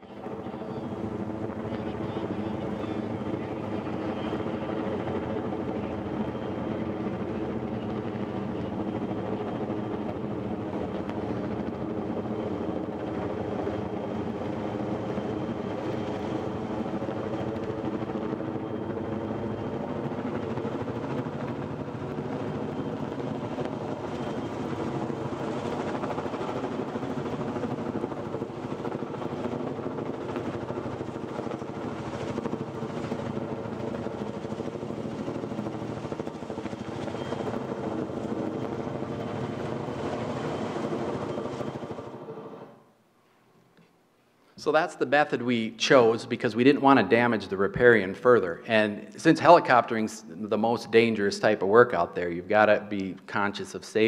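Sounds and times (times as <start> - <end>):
helicopter rotor and engine drone: 0.0 - 43.0, 44.6 - 54.0.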